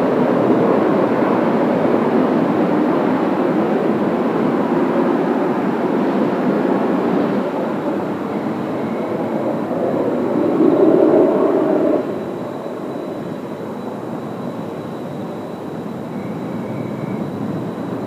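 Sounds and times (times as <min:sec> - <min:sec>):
faint high whine: 0:00.0 - 0:18.0
jet engines rushing: 0:00.0 - 0:18.0.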